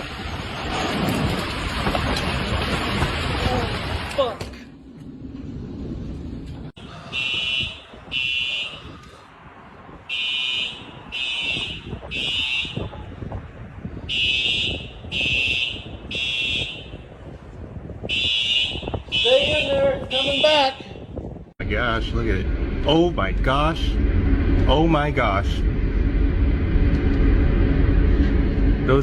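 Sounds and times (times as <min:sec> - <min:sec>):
rumbling storm wind: 0:00.0 - 0:29.0.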